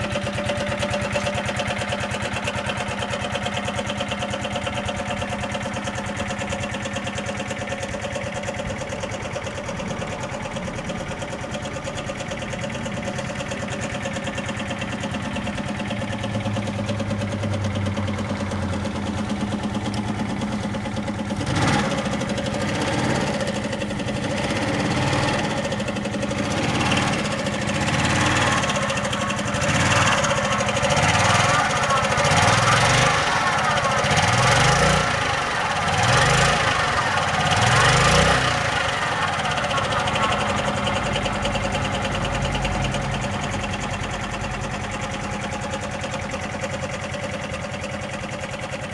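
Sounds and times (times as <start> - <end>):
scooter engine idling: 0.0 - 48.9
scooter engine revving: 0.0 - 48.9.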